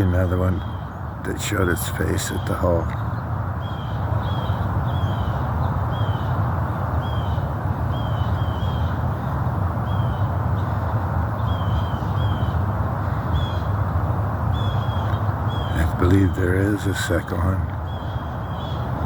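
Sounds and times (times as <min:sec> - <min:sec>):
low rumbling background noise: 0:00.0 - 0:19.0
songbird calling: 0:00.0 - 0:19.0.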